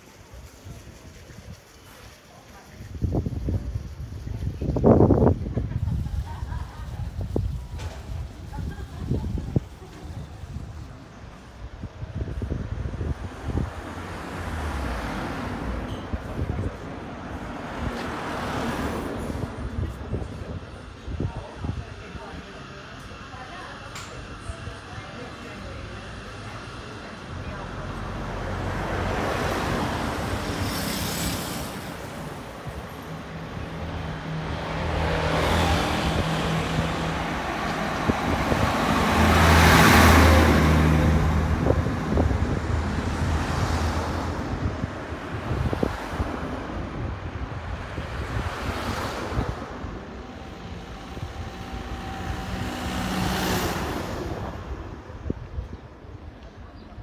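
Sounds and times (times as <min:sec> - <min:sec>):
cars driving past: 0:04.7 - 0:57.0.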